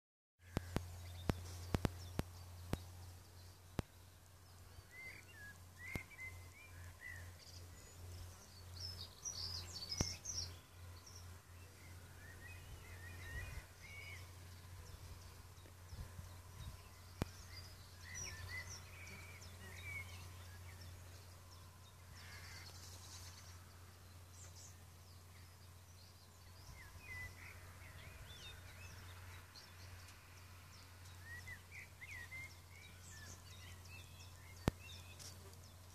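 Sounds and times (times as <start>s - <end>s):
birds chirping: 0.4s - 35.9s
low steady rumble: 0.4s - 35.9s.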